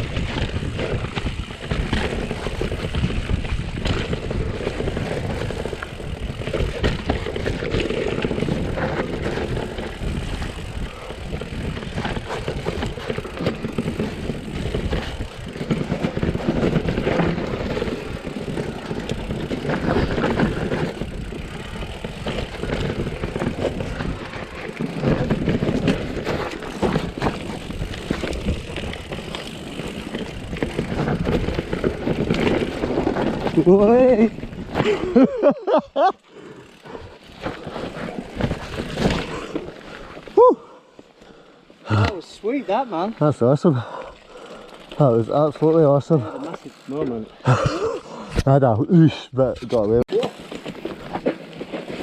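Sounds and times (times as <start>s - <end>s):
bike rattling and knocking: 0.0s - 40.7s, 41.3s - 48.1s, 49.4s - 52.0s
tyres on dirt: 0.0s - 48.6s, 49.5s - 52.0s.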